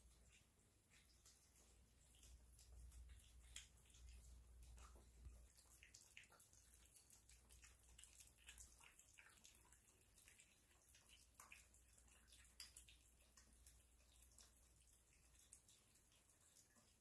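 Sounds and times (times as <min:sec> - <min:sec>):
kittens eating wet food: 0:00.0 - 0:17.0.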